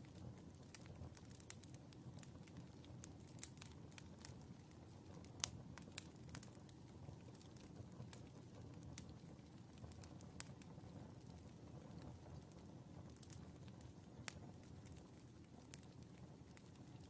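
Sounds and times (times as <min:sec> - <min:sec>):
fire crackling: 0:00.0 - 0:17.0
fire pops: 0:00.0 - 0:17.0.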